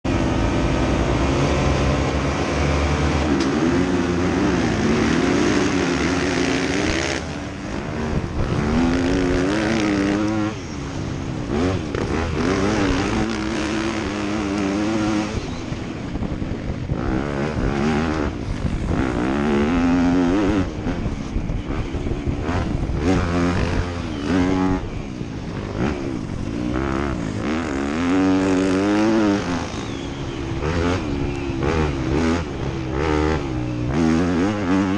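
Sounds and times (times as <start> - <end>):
dirt bike engines racing: 0.0 - 34.9.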